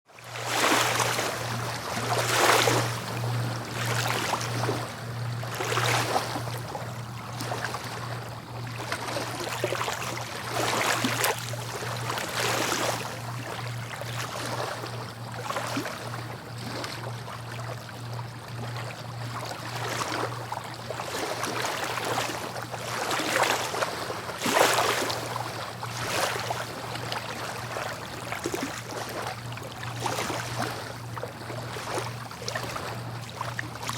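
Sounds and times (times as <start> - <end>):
sea waves breaking on shore: 0.1 - 33.9
steady low hum: 0.2 - 33.9.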